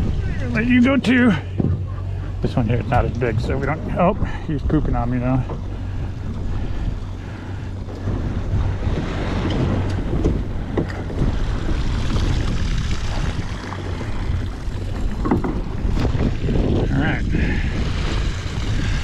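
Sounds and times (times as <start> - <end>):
boat engine droning: 0.0 - 19.0
waves washing against hull: 0.0 - 19.0
wind buffeting microphone: 0.0 - 19.0.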